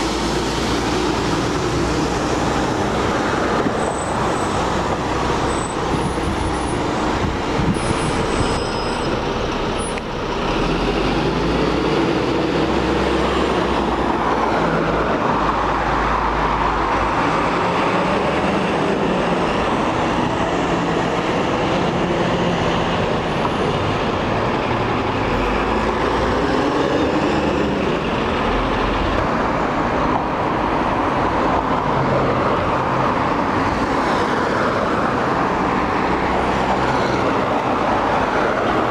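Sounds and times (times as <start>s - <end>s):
diesel buses pulling away: 0.0s - 38.9s
steady traffic noise: 0.0s - 38.9s.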